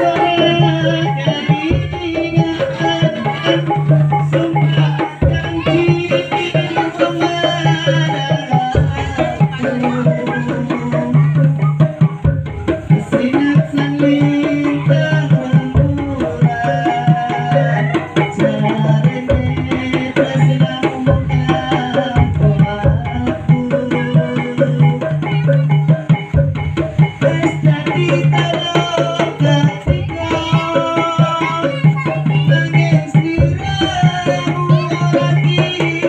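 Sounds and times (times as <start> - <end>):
fast busy drumming: 0.0 - 36.0.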